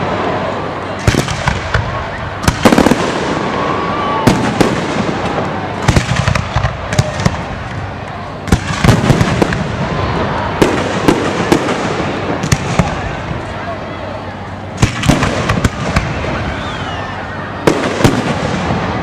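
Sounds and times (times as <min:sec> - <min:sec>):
fireworks bangs and pops: 0:01.0 - 0:13.3, 0:14.7 - 0:16.8, 0:17.6 - 0:19.0.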